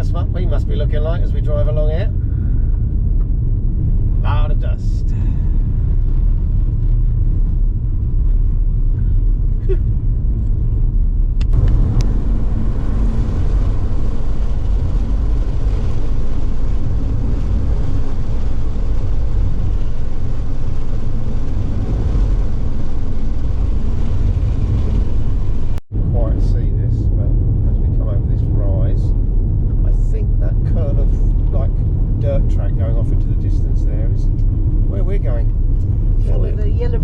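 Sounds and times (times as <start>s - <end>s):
car engine: 0.0s - 37.0s
tyres rumbling on dirt: 0.0s - 37.0s.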